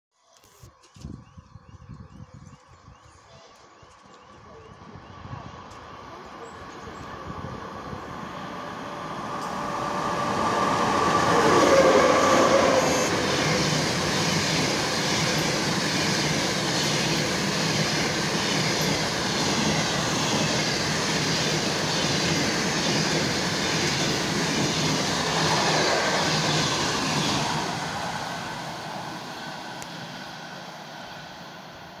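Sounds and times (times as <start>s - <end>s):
train wheels on rails: 3.0s - 32.0s
electric locomotive whine passing: 3.5s - 32.0s.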